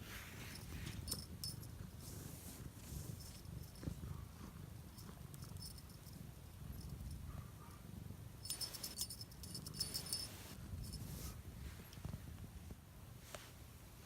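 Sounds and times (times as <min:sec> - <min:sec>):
cat purring: 0:00.0 - 0:13.3
faint light ticks and rustles: 0:00.2 - 0:07.3, 0:08.4 - 0:13.6.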